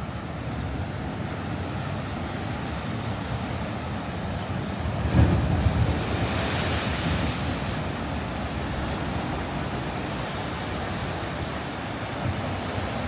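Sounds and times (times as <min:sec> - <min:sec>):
sea surf washing in: 0:00.0 - 0:13.0
wind gusting on microphone: 0:00.0 - 0:13.0.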